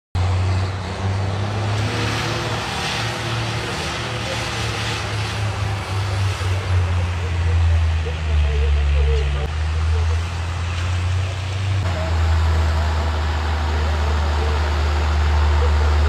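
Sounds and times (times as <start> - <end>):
tractor engine drone: 0.2 - 16.0.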